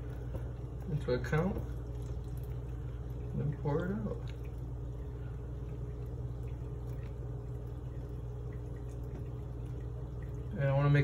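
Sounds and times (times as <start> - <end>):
steady low hum: 0.0 - 11.0
water trickling onto grain: 0.0 - 11.0.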